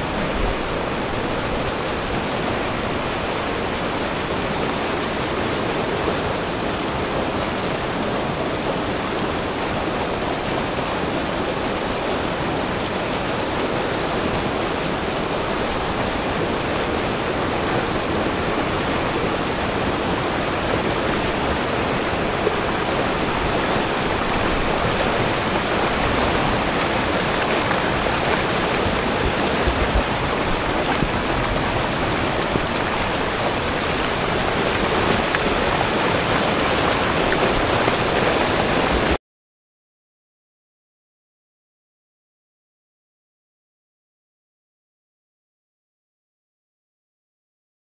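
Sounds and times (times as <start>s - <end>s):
river rushing over rapids: 0.0s - 39.2s.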